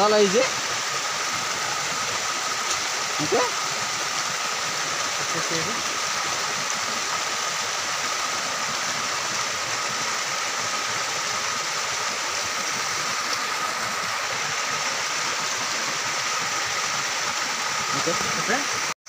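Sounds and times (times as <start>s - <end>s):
even outdoor hiss: 0.0s - 18.9s.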